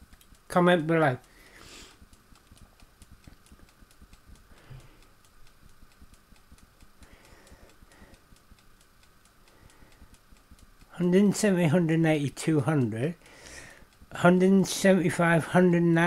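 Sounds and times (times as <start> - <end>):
fast even ticking: 0.0 - 16.0.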